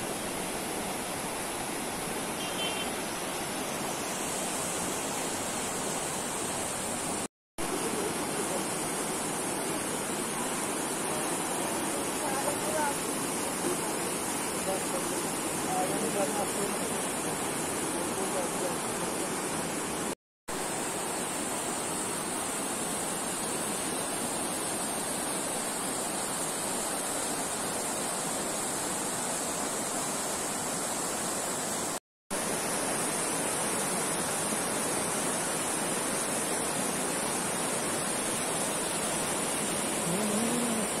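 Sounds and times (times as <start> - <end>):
river rushing over stones: 0.0 - 41.0.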